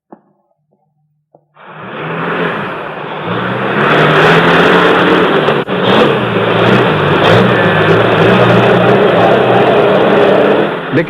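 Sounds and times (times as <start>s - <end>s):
car engine accelerating: 1.4s - 11.0s.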